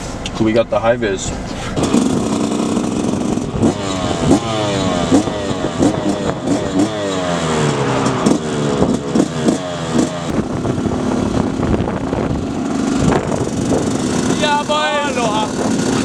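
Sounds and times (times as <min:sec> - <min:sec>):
vehicle engine pitch dropping: 0:00.0 - 0:16.0.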